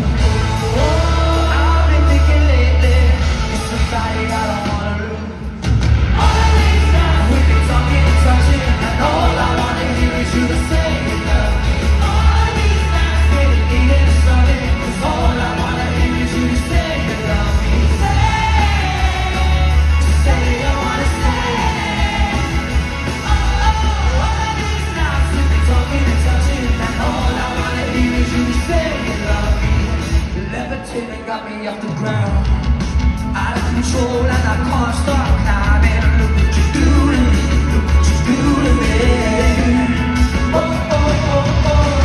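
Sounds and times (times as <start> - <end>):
person singing: 0.0 - 5.6, 6.2 - 32.7, 33.3 - 42.0
heavy bass: 0.0 - 31.1, 32.0 - 42.0
live pop-rock band: 0.0 - 42.0.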